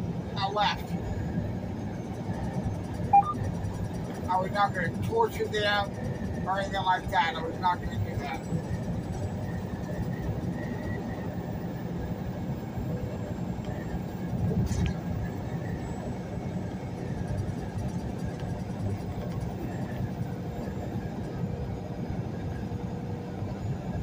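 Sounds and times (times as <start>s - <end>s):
truck diesel engine rumble: 0.0s - 24.0s
tyre road noise: 0.0s - 24.0s.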